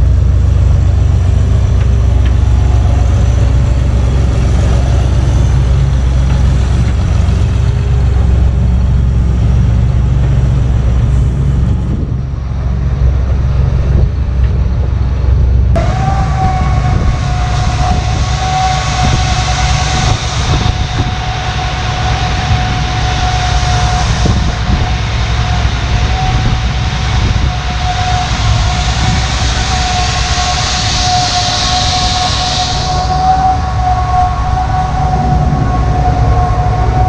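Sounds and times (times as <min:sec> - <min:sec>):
combine harvester engine drone: 0:00.0 - 0:37.0
high machine whine: 0:00.0 - 0:37.0.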